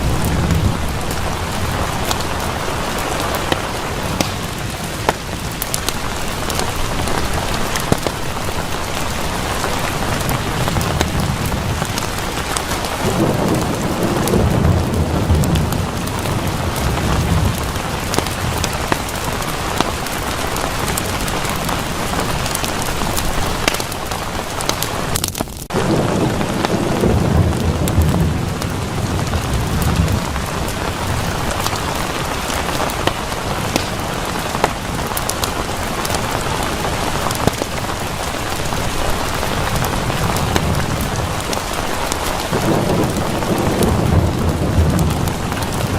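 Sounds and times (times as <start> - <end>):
heavy rain: 0.0 - 45.9
low rolling thunder: 0.0 - 45.9.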